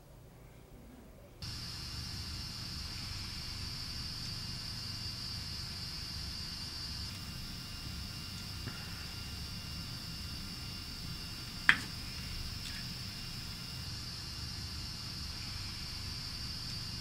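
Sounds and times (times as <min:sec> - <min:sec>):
computer fan humming: 0:01.3 - 0:17.0.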